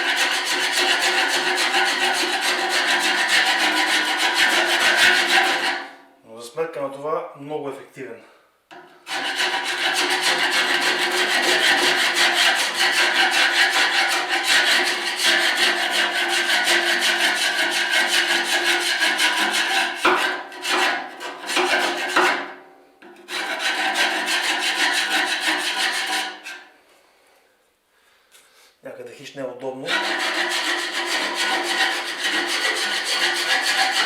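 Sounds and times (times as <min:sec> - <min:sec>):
hand tool scraping metal: 0:00.0 - 0:05.9, 0:09.1 - 0:26.7, 0:29.8 - 0:34.0.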